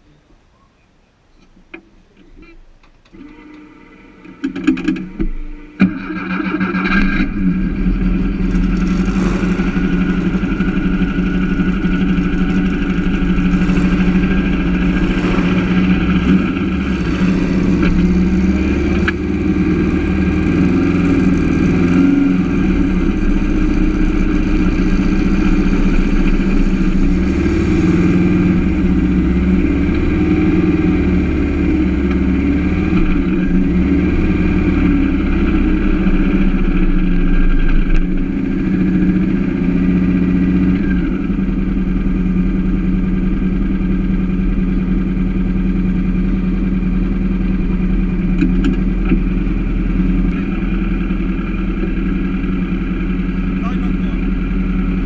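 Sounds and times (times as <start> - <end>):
car engine idling: 4.9 - 55.0.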